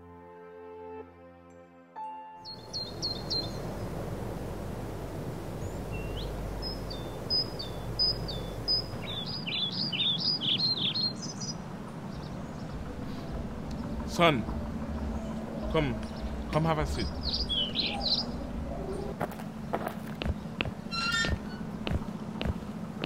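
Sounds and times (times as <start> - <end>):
low outdoor background noise: 2.4 - 23.0
small birds chirping: 2.4 - 23.0.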